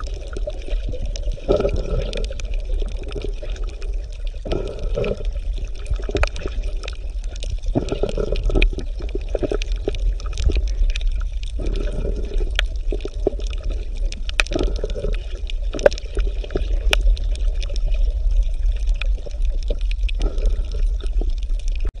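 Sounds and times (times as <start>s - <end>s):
low underwater rumble: 0.0s - 22.0s
underwater gurgling bubbles: 0.0s - 22.0s.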